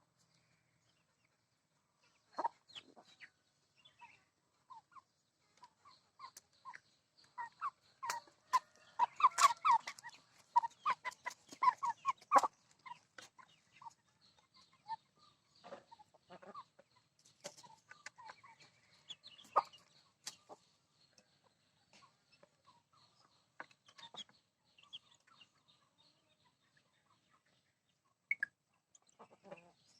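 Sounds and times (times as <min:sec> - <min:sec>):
chickens clucking: 0:00.2 - 0:29.9.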